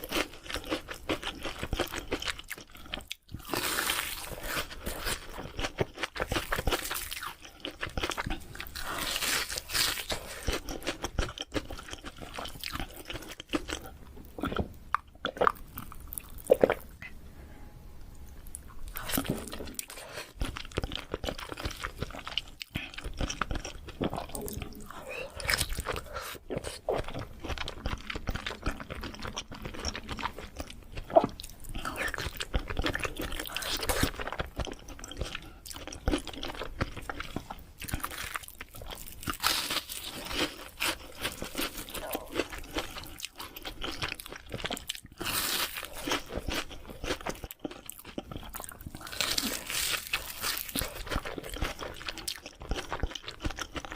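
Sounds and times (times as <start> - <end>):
wet chewing and biting: 0.0 - 16.8, 18.9 - 53.9.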